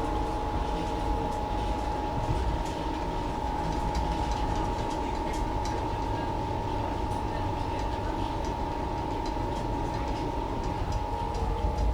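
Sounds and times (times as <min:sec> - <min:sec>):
constant high hum: 0:00.0 - 0:11.9
train low rumble: 0:00.0 - 0:11.9.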